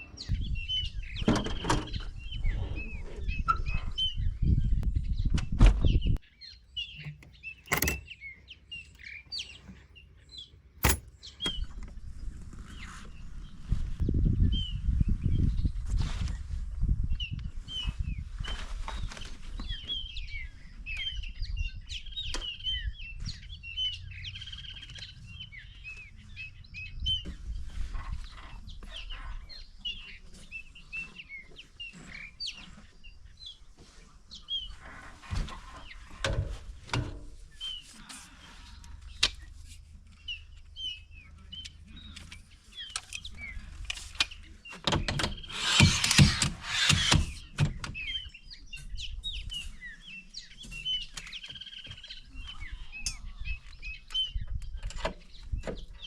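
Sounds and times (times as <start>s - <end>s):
birds chirping: 0.0s - 14.8s, 19.0s - 36.2s, 37.5s - 56.0s.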